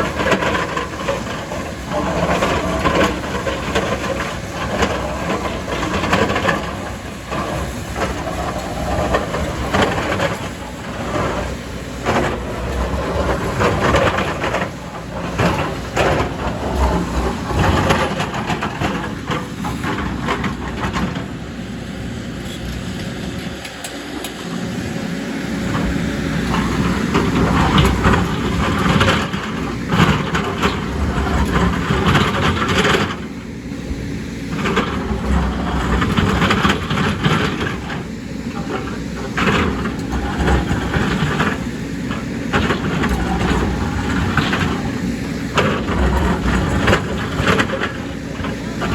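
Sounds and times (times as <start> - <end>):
bucket scraping rock and soil: 0.0 - 21.3, 25.6 - 33.4, 34.4 - 48.9
diesel engine under load: 0.0 - 48.9.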